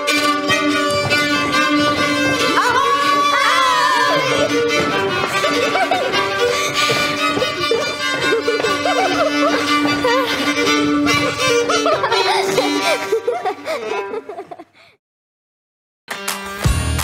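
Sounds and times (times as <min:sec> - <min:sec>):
solo folk fiddle: 0:00.0 - 0:14.3.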